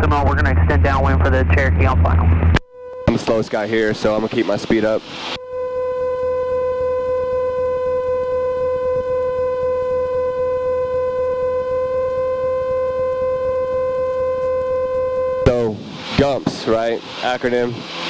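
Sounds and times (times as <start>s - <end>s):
low hum of aircraft engine: 0.0s - 18.0s
steady tone with overtones: 0.0s - 18.0s.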